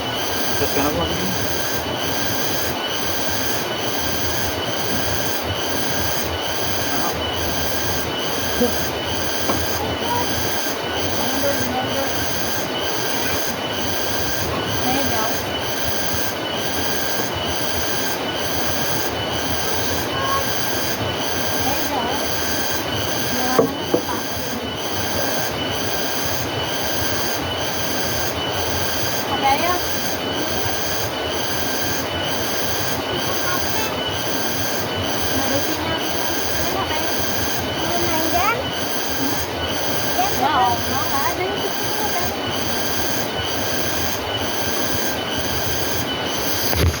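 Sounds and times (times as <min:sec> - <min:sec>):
pulsing insect chorus: 0:00.0 - 0:47.0.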